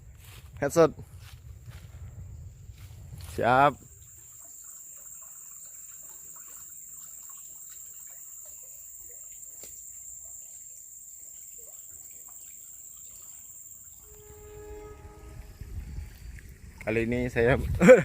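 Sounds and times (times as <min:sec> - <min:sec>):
insects droning: 0:00.0 - 0:18.0
faint trickling: 0:03.2 - 0:18.0.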